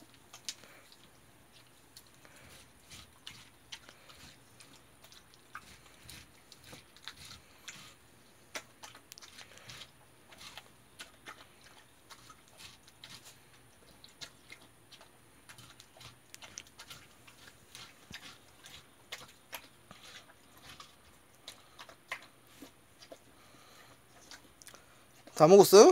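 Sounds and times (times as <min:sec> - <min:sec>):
dog chewing watermelon: 0:00.0 - 0:25.5.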